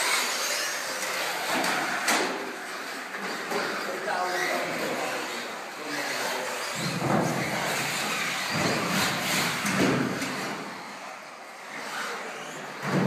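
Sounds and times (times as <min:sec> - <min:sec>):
radio-controlled cars racing: 0:00.0 - 0:13.0.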